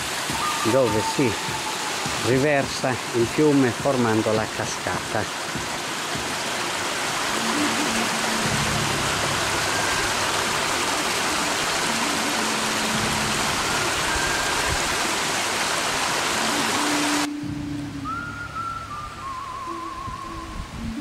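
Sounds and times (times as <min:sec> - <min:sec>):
water rushing over waterfall: 0:00.0 - 0:17.8.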